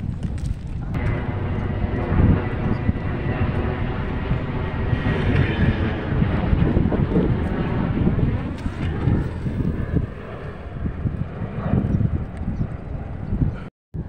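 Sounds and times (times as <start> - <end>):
engine droning hum: 0.0 - 13.7
wind rumble on microphone: 0.0 - 14.0.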